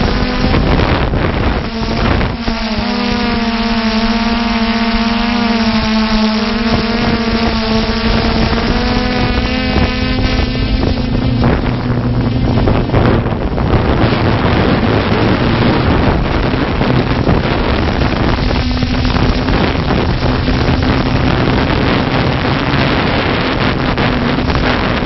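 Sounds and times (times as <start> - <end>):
drone propellers buzzing: 0.0 - 25.0
wind on microphone: 0.0 - 25.0.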